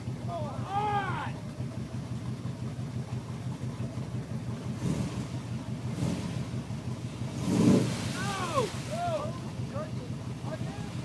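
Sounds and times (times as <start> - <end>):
pickup truck engine revving: 0.0 - 11.0.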